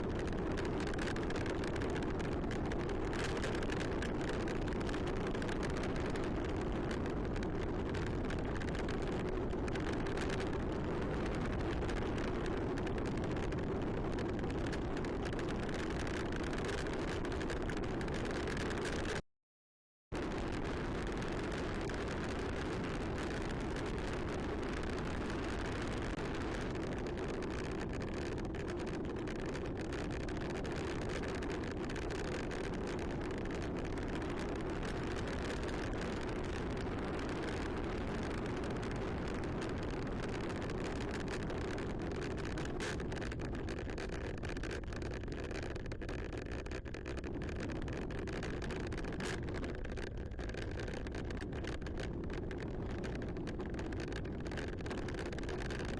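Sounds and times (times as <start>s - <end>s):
bicycle tyres rumbling on trail: 0.0s - 19.2s, 20.2s - 55.9s
wind on microphone: 0.0s - 19.2s, 20.2s - 55.9s.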